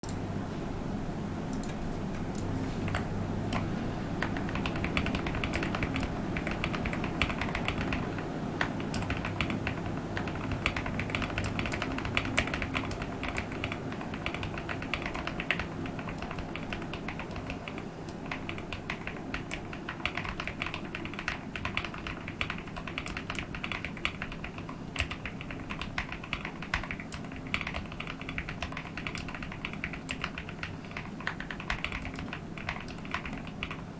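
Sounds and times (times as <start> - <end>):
fast typing on mechanical keyboard: 2.4 - 33.9.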